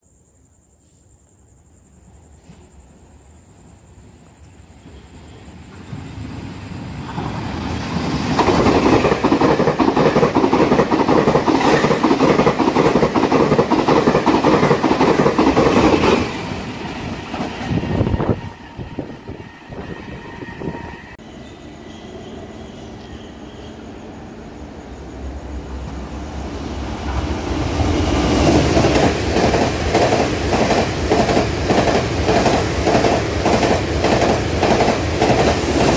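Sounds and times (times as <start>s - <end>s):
train wheels rushing on rail: 4.4s - 35.9s.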